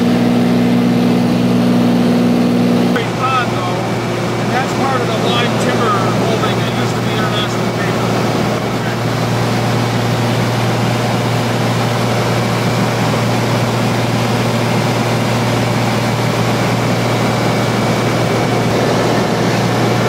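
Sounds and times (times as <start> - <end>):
constant low hum: 0.0 - 20.0
light aircraft engine droning: 0.0 - 20.0.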